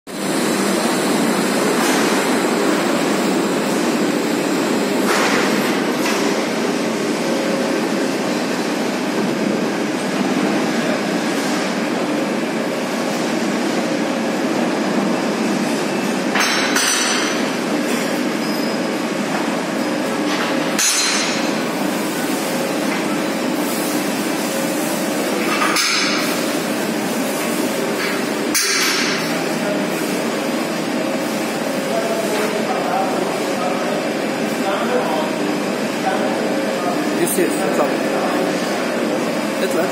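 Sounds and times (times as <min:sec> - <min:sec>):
machinery hum and clatter: 0:00.1 - 0:39.9.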